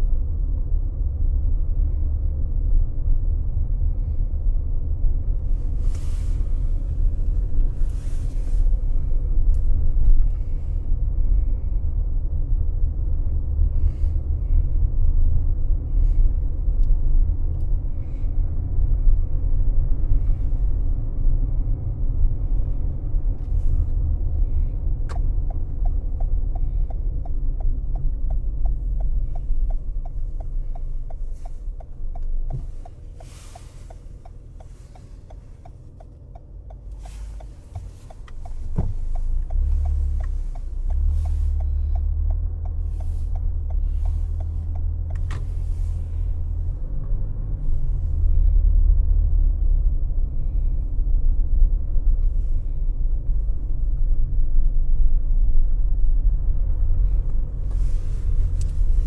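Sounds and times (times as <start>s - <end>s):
car road and engine rumble: 0.0s - 59.0s
turn signal ticking: 5.2s - 52.4s, 56.2s - 59.0s.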